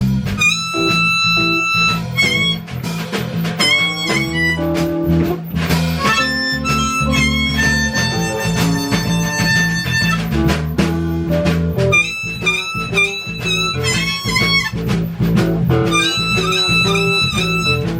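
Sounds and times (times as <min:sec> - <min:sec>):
blues harmonica with bent notes: 0:00.0 - 0:17.9
guitar: 0:00.0 - 0:17.9
low bass line: 0:00.0 - 0:17.9.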